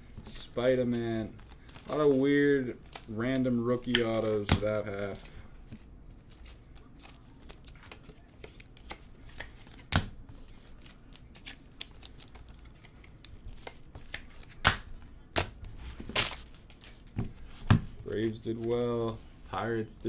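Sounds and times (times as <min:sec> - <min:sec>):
trading cards clicking and rustling: 0:00.3 - 0:17.3.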